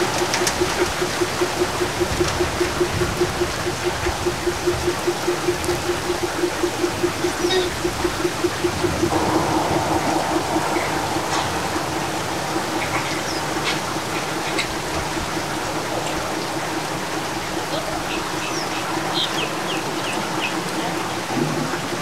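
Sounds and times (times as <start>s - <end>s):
heavy rain pouring: 0.0s - 22.0s
low pulsing tone: 0.0s - 22.0s.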